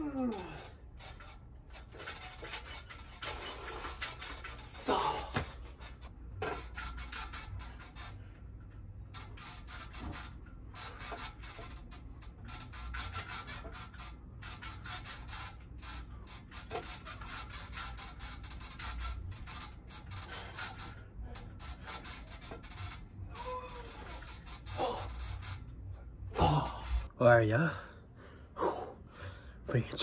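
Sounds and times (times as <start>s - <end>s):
metal dip station creaking and clicking: 0.0s - 27.1s.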